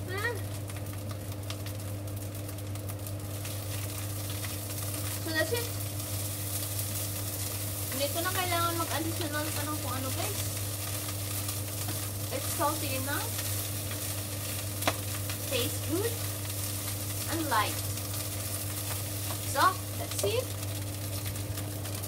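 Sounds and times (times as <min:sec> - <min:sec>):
rice sizzling in a pot: 0:00.0 - 0:22.0.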